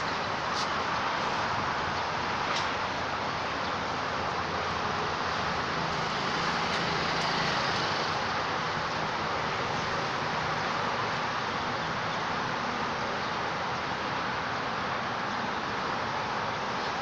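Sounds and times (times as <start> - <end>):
steady background rushing noise: 0.0 - 17.0.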